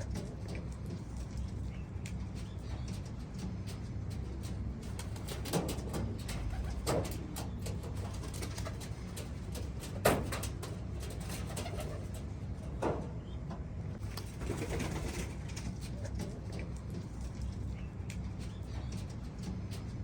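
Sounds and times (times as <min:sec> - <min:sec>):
pigeons cooing: 0:00.0 - 0:19.8.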